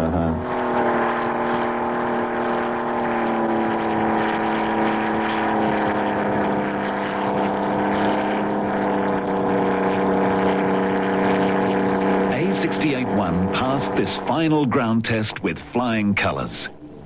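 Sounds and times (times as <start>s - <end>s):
propeller aircraft engine droning: 0.0s - 17.0s.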